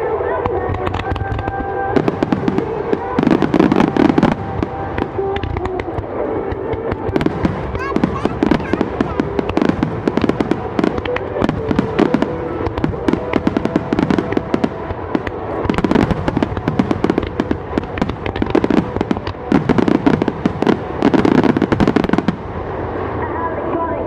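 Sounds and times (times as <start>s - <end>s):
fireworks popping and crackling: 0.0s - 24.0s.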